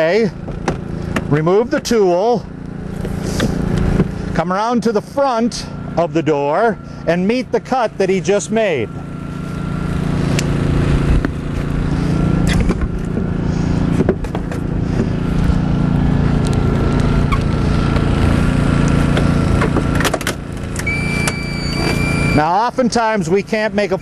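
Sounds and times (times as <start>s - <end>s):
gas engine running steadily: 0.0s - 24.0s.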